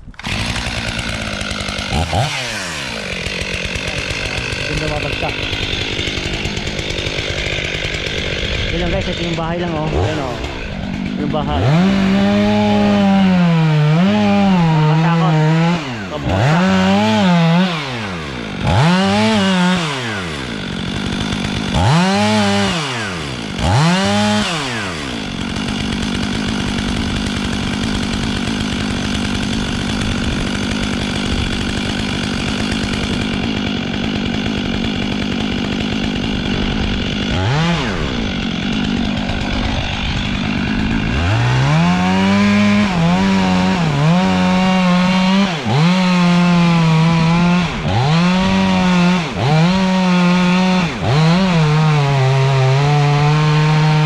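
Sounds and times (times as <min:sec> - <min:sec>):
two-stroke chainsaw revving: 0:00.0 - 0:54.0.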